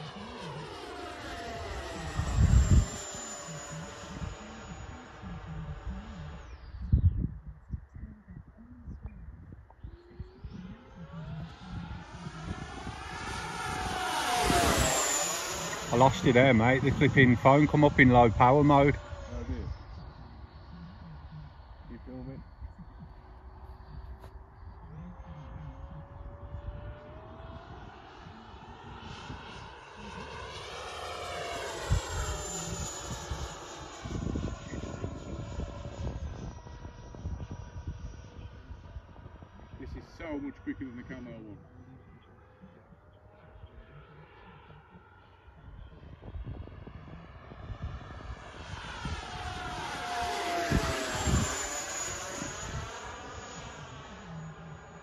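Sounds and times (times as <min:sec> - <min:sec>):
model jet fan whine: 0:00.0 - 0:07.2, 0:09.5 - 0:55.0.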